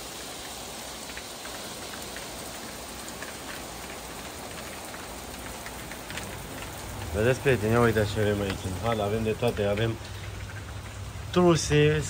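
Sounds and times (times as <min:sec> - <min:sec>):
hail ticking on metal: 0:00.0 - 0:12.0
rain on pavement: 0:00.0 - 0:12.0.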